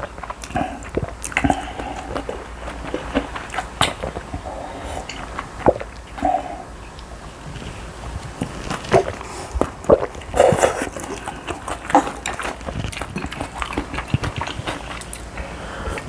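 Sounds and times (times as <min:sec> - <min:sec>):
chewing and mouth smacking: 0:00.0 - 0:16.0.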